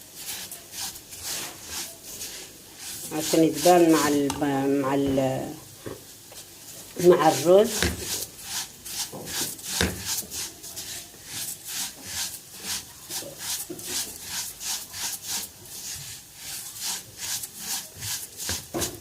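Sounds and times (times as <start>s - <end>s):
spoon stirring and scraping pot: 0.0s - 19.0s.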